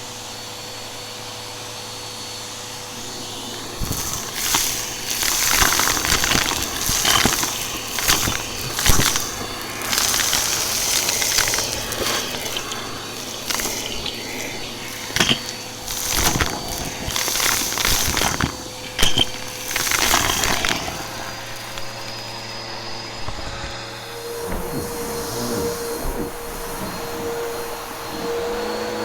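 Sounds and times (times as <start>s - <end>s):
vacuum motor hum: 0.0s - 29.0s
vacuum brush crunching debris: 2.2s - 29.0s.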